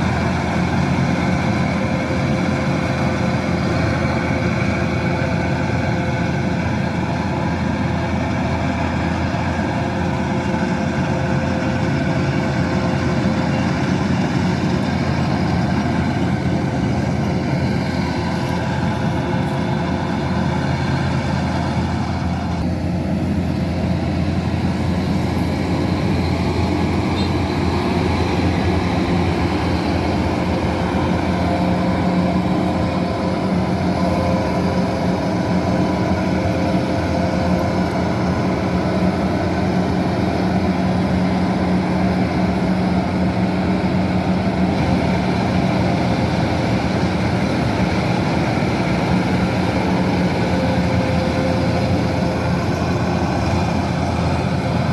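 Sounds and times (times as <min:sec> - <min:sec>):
diesel engine droning under load: 0:00.0 - 0:54.9.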